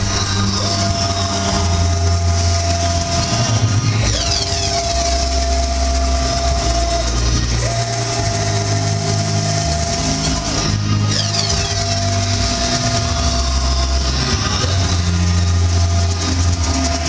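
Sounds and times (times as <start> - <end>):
printer carriage motor whine: 0.0 - 17.0.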